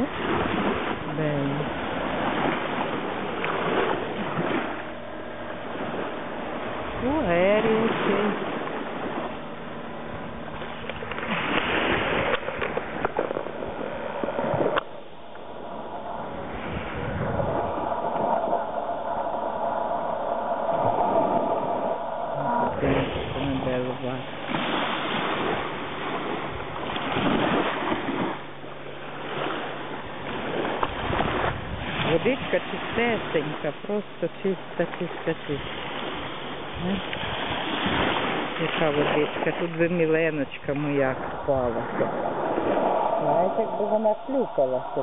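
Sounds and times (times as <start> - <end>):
waves lapping on stony shore: 0.0 - 45.0.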